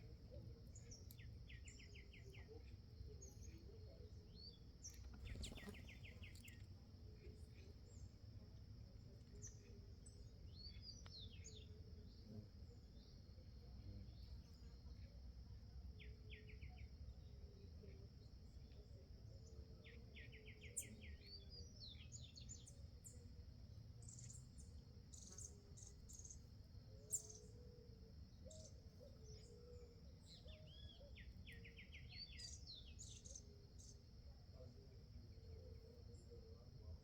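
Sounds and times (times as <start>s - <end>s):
faint songbird calls: 0.0s - 8.2s, 9.3s - 15.2s, 19.5s - 23.4s, 24.0s - 37.0s.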